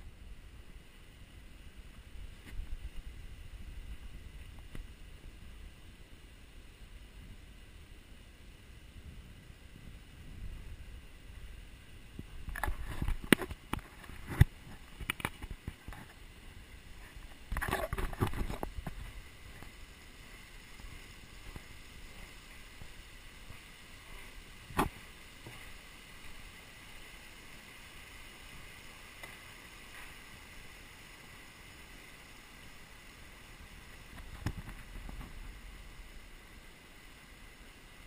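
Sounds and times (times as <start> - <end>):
river rushing: 0.0 - 38.0.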